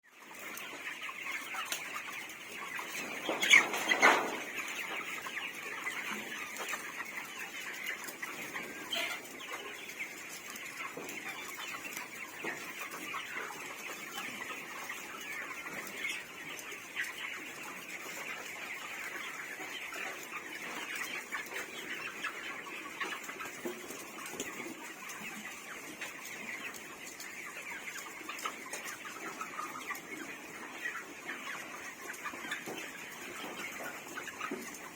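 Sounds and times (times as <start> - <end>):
chickens clucking and peeping: 0.0 - 34.9.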